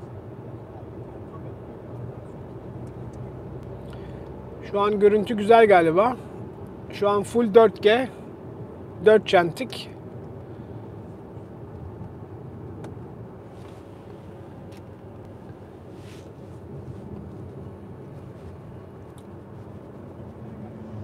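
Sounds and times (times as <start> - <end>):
road and engine noise inside car: 0.0 - 21.0.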